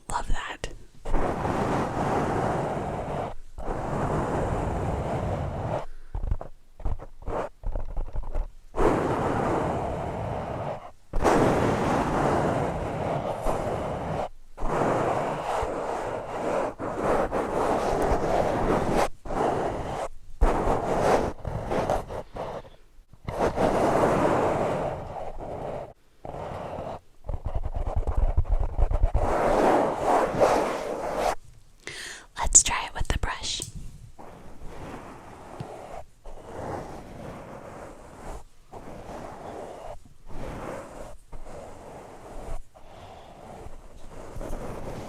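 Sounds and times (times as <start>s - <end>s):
scratching against microphone: 0.0s - 31.7s, 32.3s - 45.0s.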